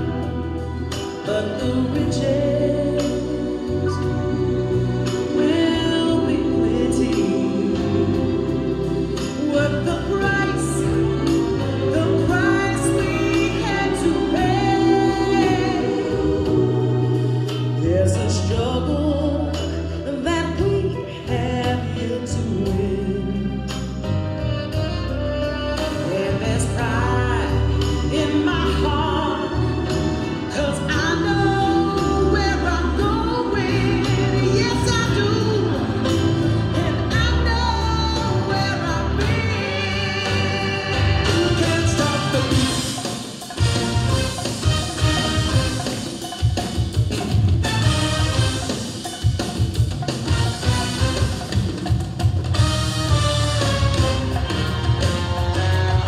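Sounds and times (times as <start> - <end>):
song with singer and choir: 0.0 - 56.0.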